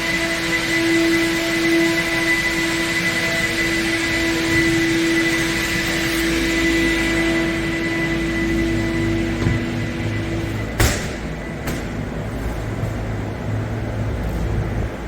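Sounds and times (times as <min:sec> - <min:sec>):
machine humming and whining: 0:00.0 - 0:15.0.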